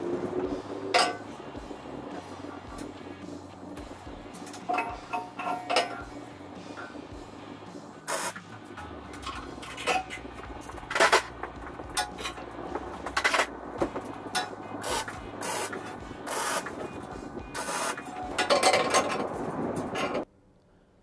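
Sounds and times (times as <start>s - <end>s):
welding arc crackling: 0.0s - 20.2s.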